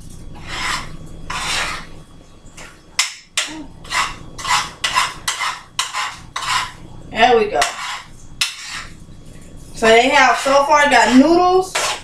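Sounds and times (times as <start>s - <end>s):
utensil scraping frying pan: 0.3s - 2.0s, 2.6s - 12.0s.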